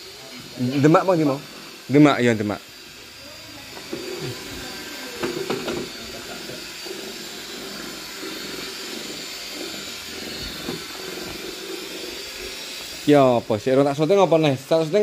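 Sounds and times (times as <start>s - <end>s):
mechanical whir and hiss: 0.0s - 15.0s.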